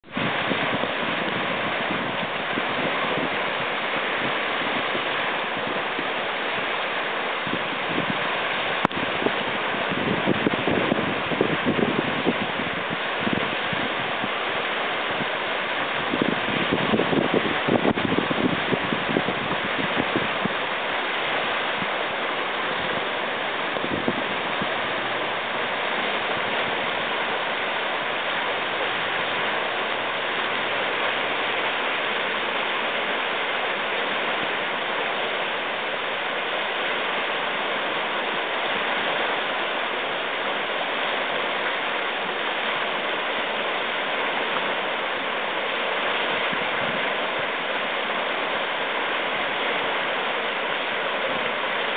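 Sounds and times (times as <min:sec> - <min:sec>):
river rapids rushing: 0:00.0 - 0:51.9.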